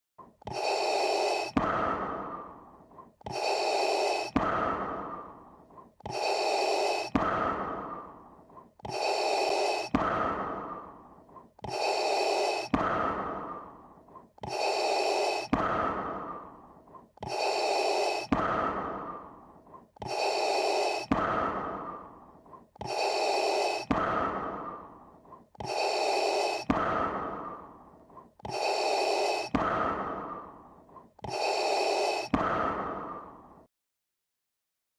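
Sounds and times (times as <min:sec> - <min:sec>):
hissing mechanical breathing: 0:00.2 - 0:33.7.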